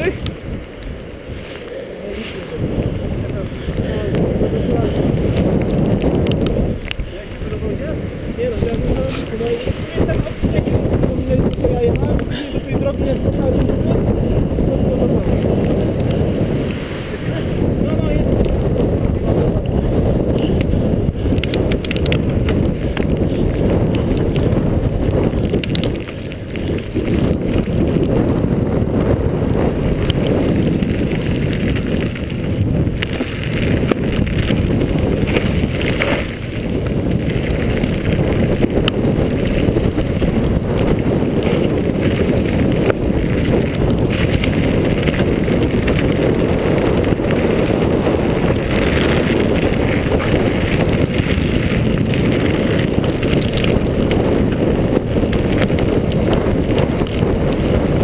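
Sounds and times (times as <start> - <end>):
bike rattles and clicks: 0.0 - 58.0
tyres rumbling on dirt: 0.0 - 58.0
wind buffeting microphone: 0.0 - 58.0.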